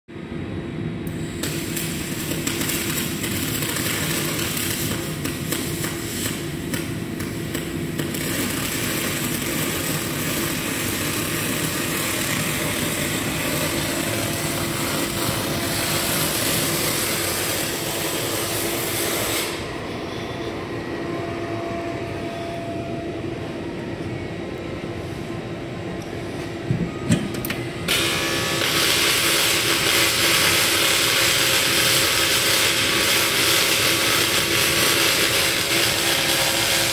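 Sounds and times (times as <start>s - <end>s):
welding machine cooling fan humming: 0.1s - 36.9s.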